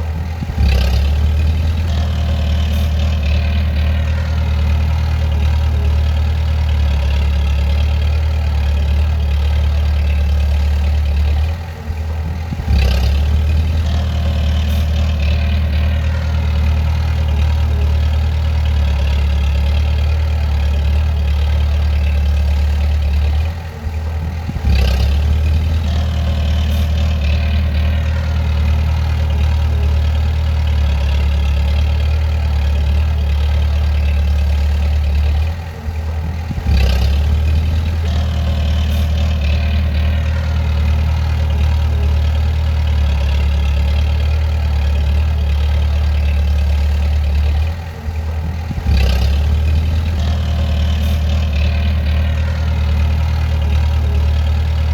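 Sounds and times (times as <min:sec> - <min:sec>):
bulldozer diesel engine droning: 0:00.0 - 0:54.9.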